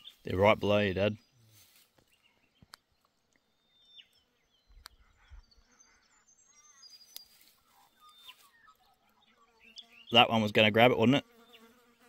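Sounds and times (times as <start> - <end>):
distant bird chirps: 0.0 - 10.7, 11.3 - 11.8.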